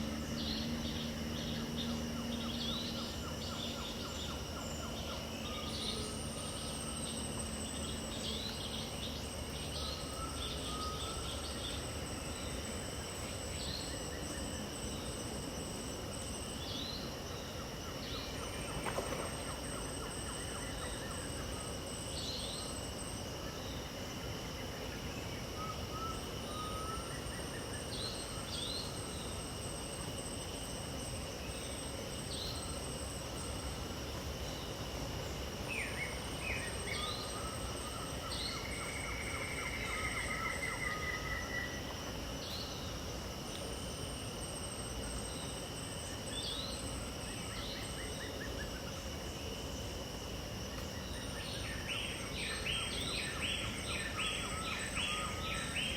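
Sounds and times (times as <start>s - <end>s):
insects buzzing: 0.0s - 55.9s
pulsing high buzz: 0.0s - 55.9s.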